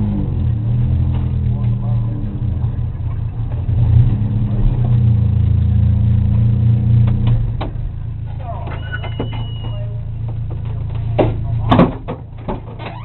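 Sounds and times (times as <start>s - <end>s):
racing car engine droning: 0.0s - 13.0s.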